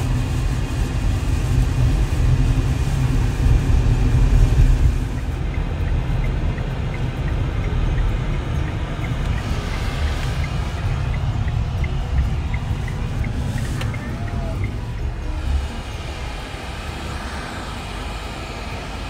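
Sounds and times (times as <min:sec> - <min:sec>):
road and engine rumble: 0:00.0 - 0:19.0.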